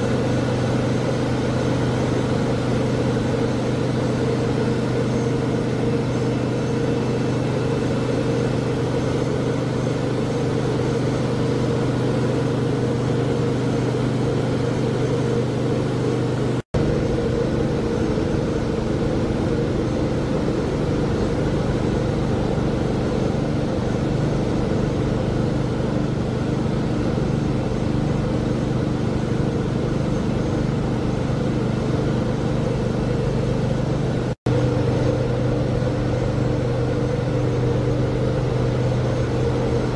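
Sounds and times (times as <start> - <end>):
engine room machinery drone: 0.0 - 39.9.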